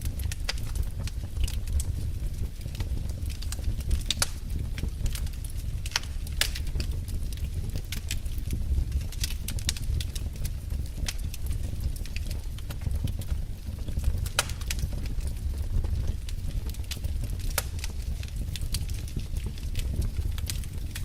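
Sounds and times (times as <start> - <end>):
flames rumbling: 0.0 - 21.0
wood fire crackling: 0.0 - 21.0.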